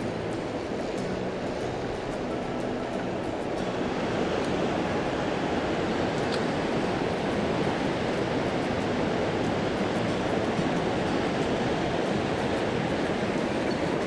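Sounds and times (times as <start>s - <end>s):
stream water rushing over rocks: 0.0s - 14.0s.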